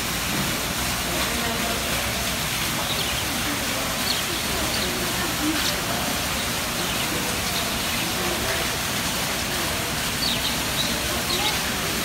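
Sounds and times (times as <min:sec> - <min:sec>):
fountain water falling: 0:00.0 - 0:12.0.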